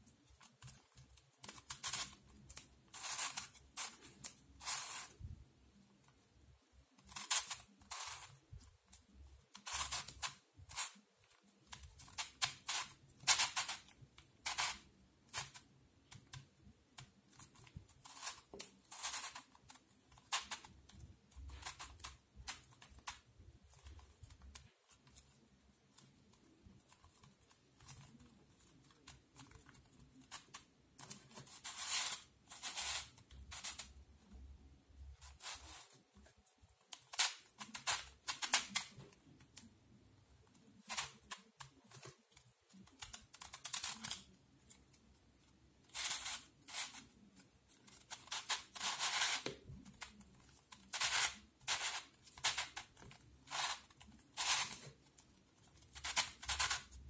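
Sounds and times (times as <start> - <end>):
plastic puzzle cube clicking: 0.4 - 5.2, 7.0 - 8.4, 9.5 - 11.0, 11.6 - 34.0, 36.8 - 39.7, 40.6 - 44.4, 45.9 - 47.1, 47.8 - 55.2, 55.8 - 57.0.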